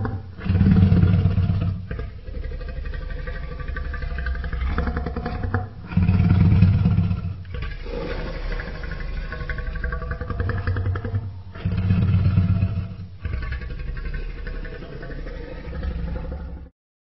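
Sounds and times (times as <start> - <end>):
creature growling and bellowing: 0.0 - 16.7.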